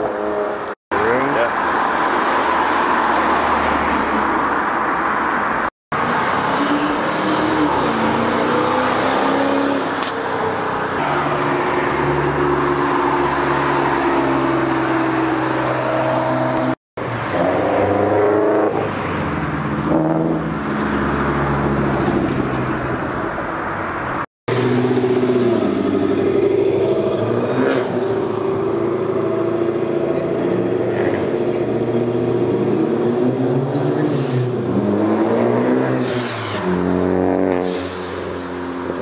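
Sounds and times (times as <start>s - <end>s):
cars revving and driving past: 0.0s - 39.0s.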